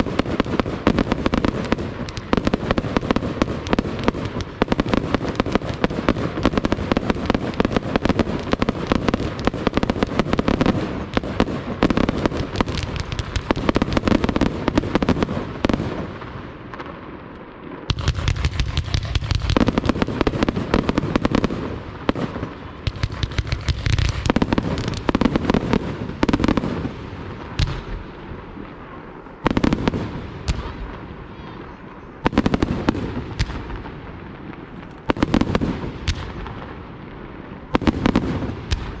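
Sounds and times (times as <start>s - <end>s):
fireworks crackling bangs: 0.0s - 39.0s.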